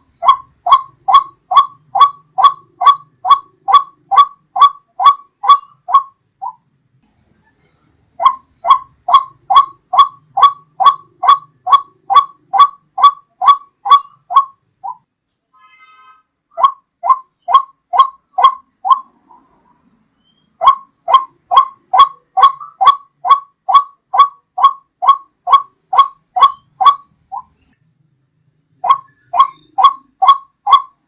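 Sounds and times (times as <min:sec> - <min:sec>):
waterhen calling: 0:00.0 - 0:06.6, 0:08.2 - 0:15.0, 0:16.6 - 0:19.5, 0:20.3 - 0:27.6, 0:28.8 - 0:31.0.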